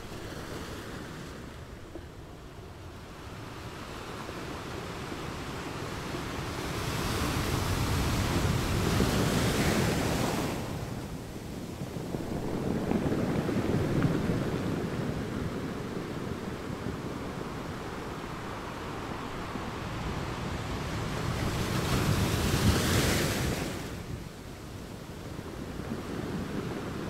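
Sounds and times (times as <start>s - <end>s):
wind on microphone: 0.0s - 27.0s.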